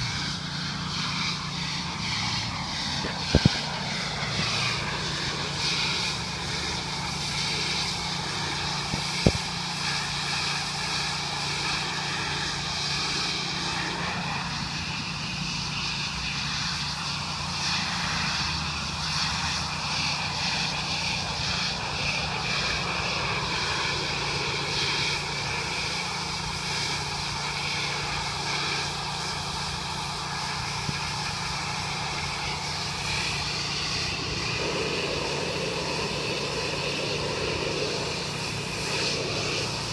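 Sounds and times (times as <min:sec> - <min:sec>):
high hiss: 0:00.0 - 0:39.9
pressure washer engine running: 0:00.0 - 0:39.9.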